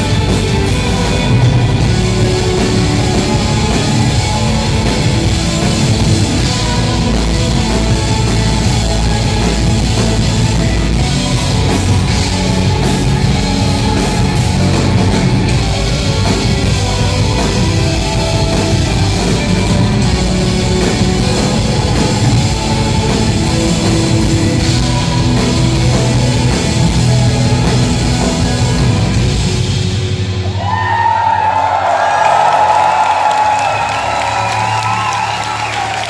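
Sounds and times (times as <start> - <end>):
rock band playing live: 0.0 - 36.0.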